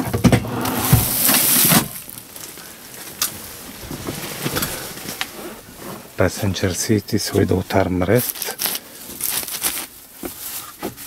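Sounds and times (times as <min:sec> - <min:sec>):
bubble wrap crinkling: 0:00.6 - 0:06.2, 0:07.5 - 0:11.0.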